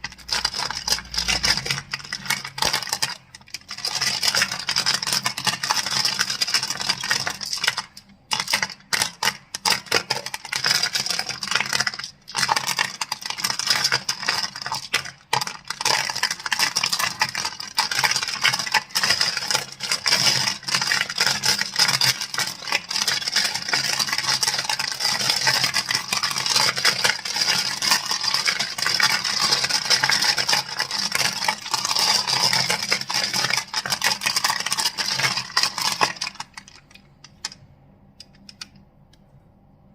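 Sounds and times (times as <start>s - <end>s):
crystals clicking: 0.0s - 38.9s.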